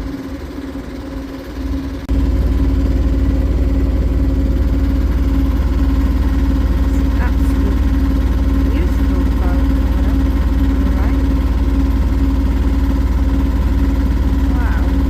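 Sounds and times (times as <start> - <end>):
boat engine rumbling: 0.0 - 15.0
steady hum: 0.0 - 15.0.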